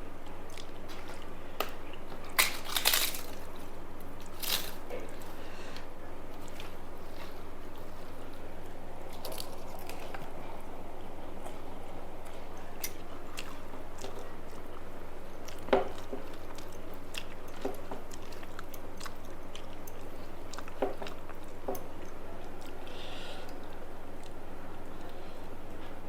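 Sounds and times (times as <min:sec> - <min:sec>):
person chewing: 0:00.2 - 0:25.4.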